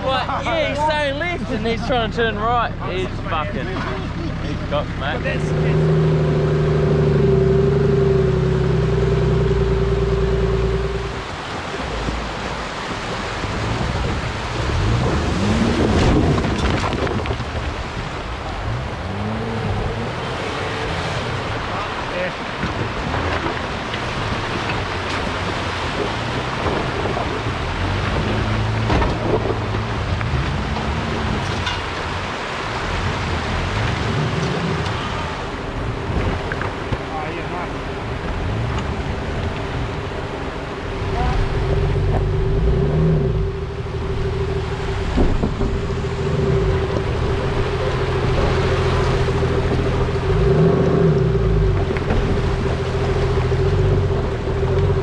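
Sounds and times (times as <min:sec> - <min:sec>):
vehicle engine humming: 0:00.0 - 0:55.0
river rushing over stones: 0:05.1 - 0:55.0.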